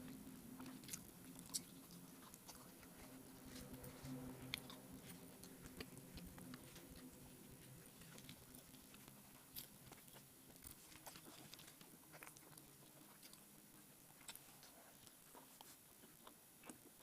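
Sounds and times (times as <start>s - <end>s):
low steady hum: 0.0s - 17.0s
mouth clicks and smacks eating: 0.0s - 17.0s.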